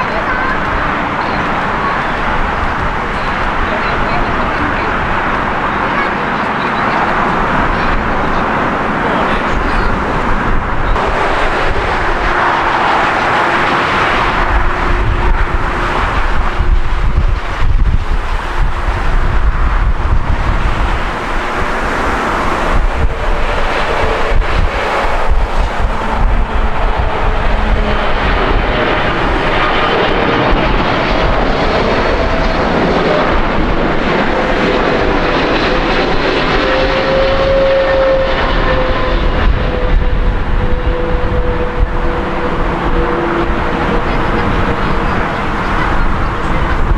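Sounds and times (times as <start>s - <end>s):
jet engine rushing: 0.0s - 46.9s
wind buffeting microphone: 0.0s - 46.9s.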